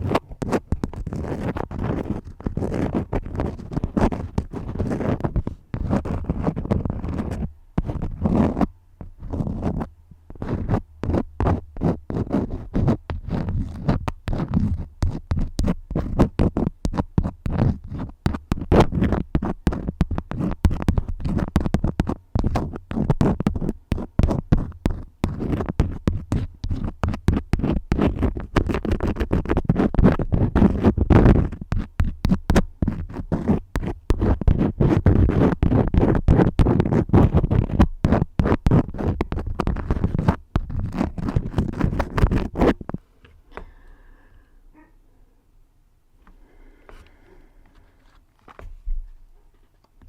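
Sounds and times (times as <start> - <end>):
crayons scratching on paper: 0.0 - 43.0.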